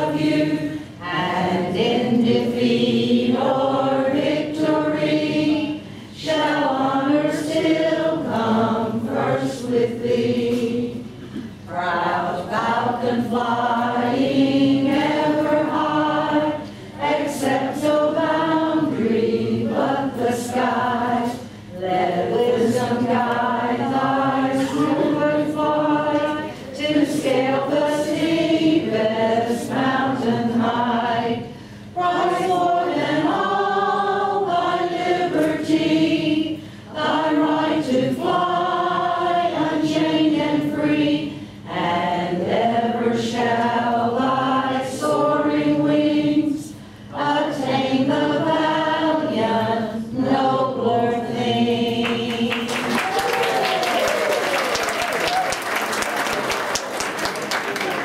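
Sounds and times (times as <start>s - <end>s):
group of people singing together: 0.0s - 58.0s.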